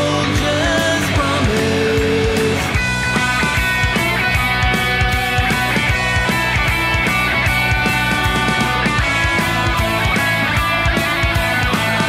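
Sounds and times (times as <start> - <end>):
bass guitar: 0.0 - 12.0
electric guitar chords: 0.0 - 12.0
steady drumbeat: 0.0 - 12.0.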